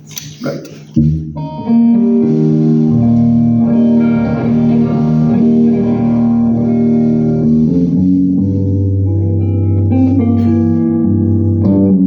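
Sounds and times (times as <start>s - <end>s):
solo guitar: 0.0s - 12.0s.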